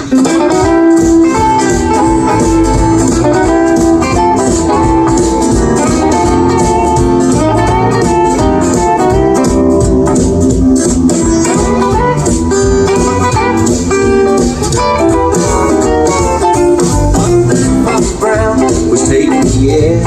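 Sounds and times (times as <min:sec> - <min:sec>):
upbeat band with guitars: 0:00.0 - 0:20.0.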